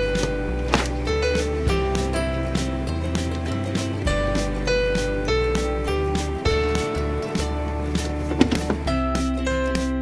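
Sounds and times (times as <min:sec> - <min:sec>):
cheerful plucked string music: 0:00.0 - 0:10.0.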